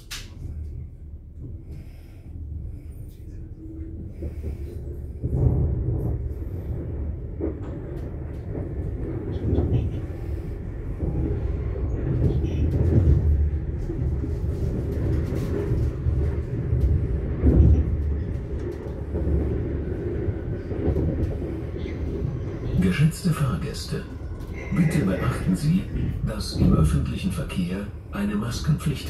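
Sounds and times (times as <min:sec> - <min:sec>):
train carriage rumbling on rails: 0:00.0 - 0:29.0.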